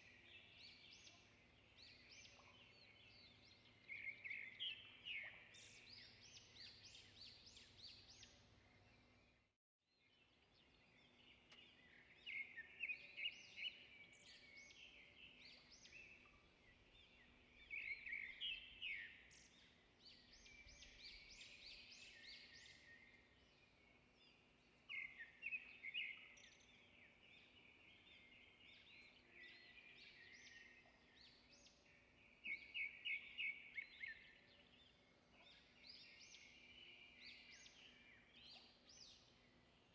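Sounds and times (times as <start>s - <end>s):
birds chirping and singing: 0.0s - 9.4s, 10.2s - 39.9s.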